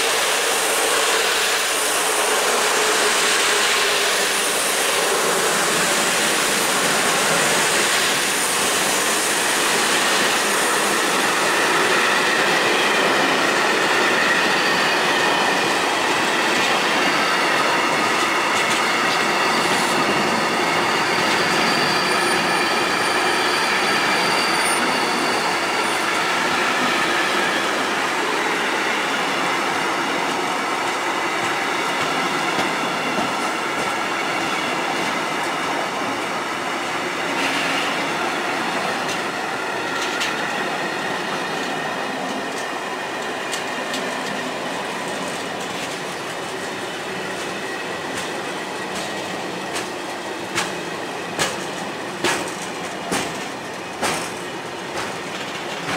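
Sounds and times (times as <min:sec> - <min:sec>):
freight train wheels on rails: 0:00.0 - 0:55.9
high squealing from train wheels: 0:00.0 - 0:55.9.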